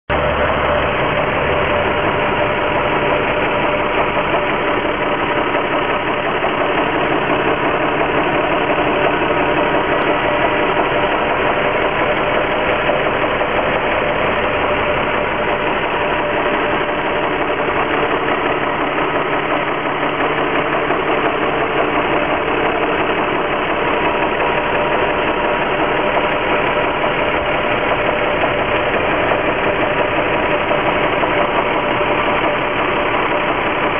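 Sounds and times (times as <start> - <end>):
car engine idling with knocking: 0.1 - 33.9.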